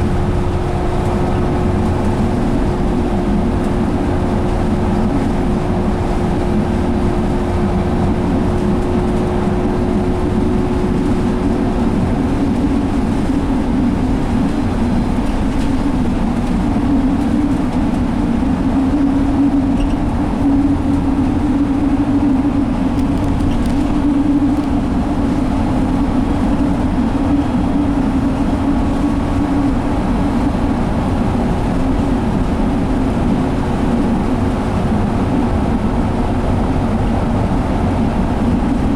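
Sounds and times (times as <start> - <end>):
bus diesel engine running: 0.0 - 38.9
tyre and road noise: 0.0 - 38.9.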